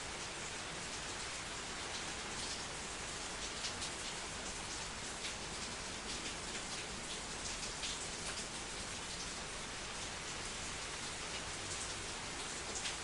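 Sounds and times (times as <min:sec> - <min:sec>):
rain on a hard surface: 0:00.0 - 0:13.0.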